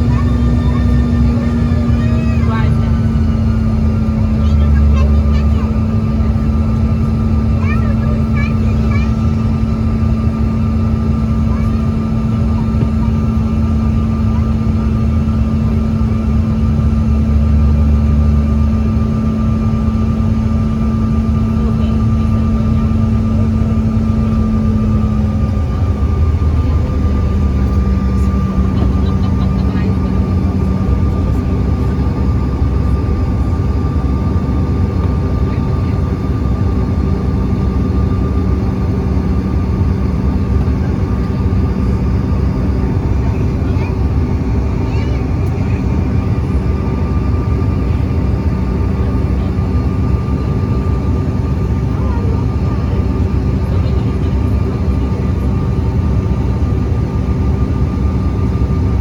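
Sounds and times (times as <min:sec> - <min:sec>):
airliner engines low rumble: 0:00.0 - 0:59.0
constant hum: 0:00.0 - 0:59.0.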